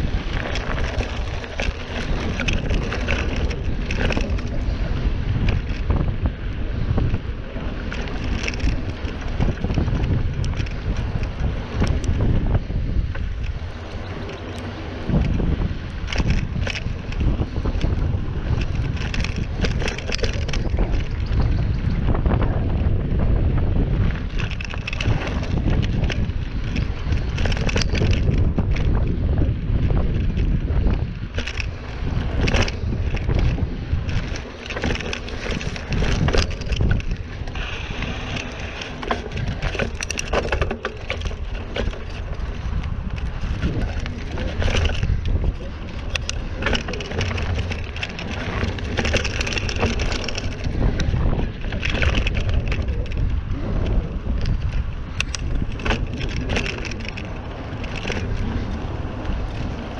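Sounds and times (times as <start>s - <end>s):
bike rattles and crunches: 0.0s - 59.9s
tyre and wind rumble: 0.0s - 59.9s.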